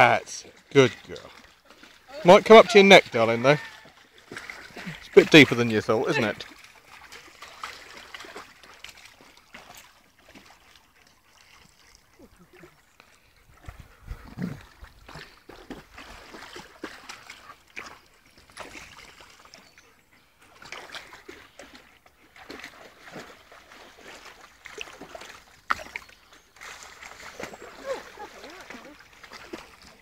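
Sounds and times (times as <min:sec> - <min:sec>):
dogs splashing in water: 0:00.0 - 0:30.0.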